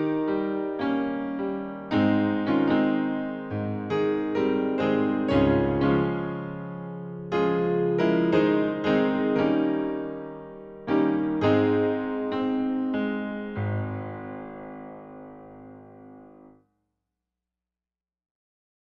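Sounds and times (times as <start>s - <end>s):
slow gentle piano music: 0.0s - 16.6s.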